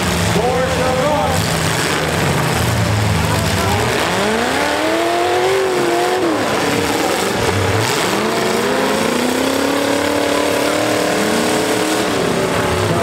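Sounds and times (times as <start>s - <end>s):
din of other engines: 0.0s - 13.0s
truck engine revving: 0.0s - 13.0s.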